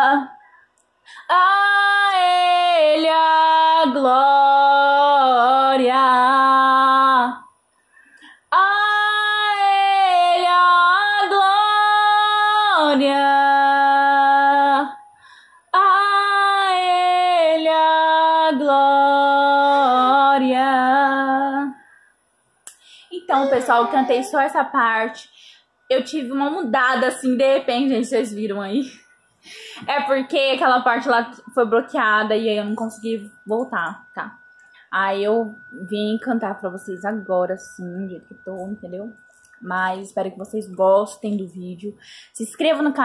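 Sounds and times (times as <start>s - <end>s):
woman singing a hymn: 0.0s - 0.4s, 1.1s - 7.4s, 8.5s - 15.0s, 15.8s - 21.8s, 23.1s - 29.0s, 29.6s - 34.3s, 34.9s - 43.0s.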